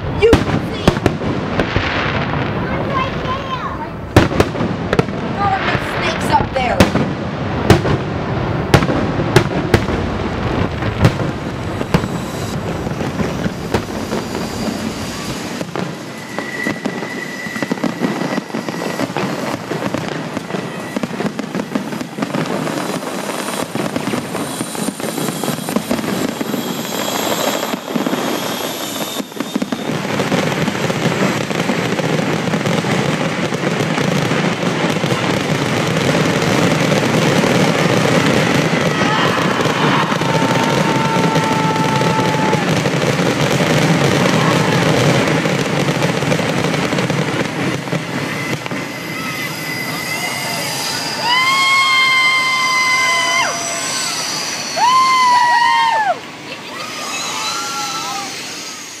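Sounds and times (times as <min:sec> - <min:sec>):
fireworks bangs and crackling: 0:00.0 - 0:59.0
whistling firework shell: 0:10.5 - 0:59.0.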